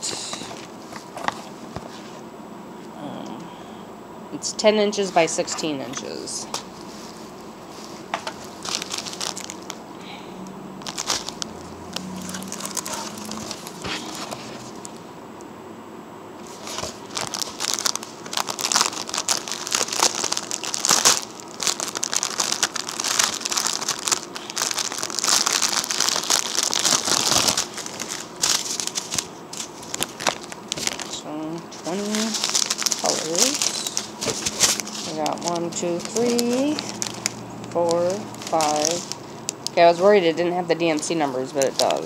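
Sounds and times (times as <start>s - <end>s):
plastic bags crinkling: 5.4s - 15.0s, 16.4s - 42.0s.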